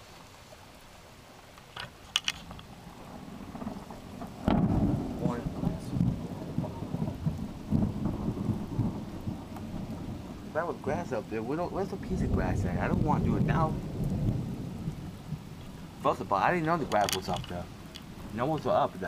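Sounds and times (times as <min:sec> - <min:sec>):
steady rain: 0:00.0 - 0:19.0
thunder rumbling and clapping: 0:03.0 - 0:19.0.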